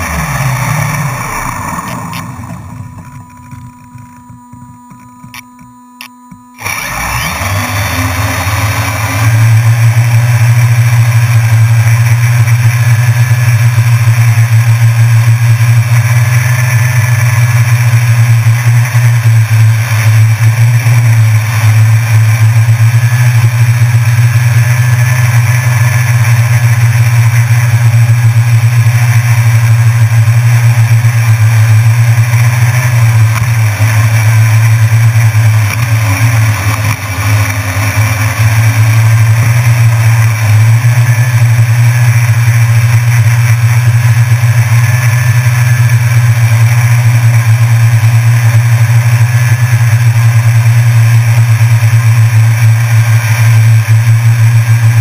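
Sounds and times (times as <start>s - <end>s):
drone propellers humming: 0.0s - 55.0s.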